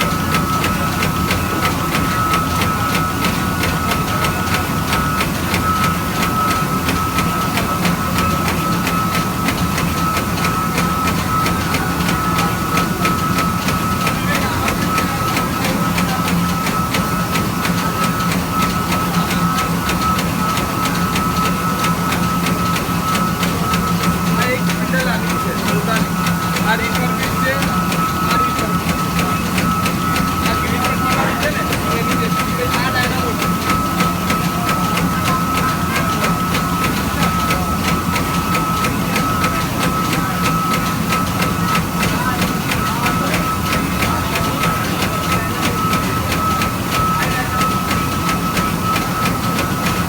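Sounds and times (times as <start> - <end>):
machine whine and hum: 0.0 - 50.0.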